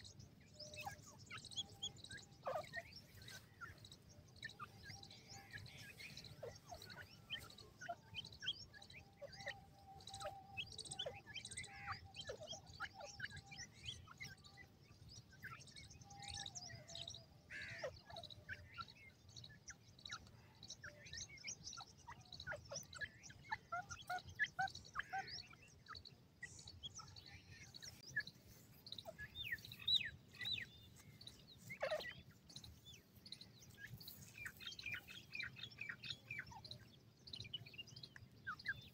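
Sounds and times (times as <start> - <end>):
young birds chirping and peeping: 0.0 - 38.9.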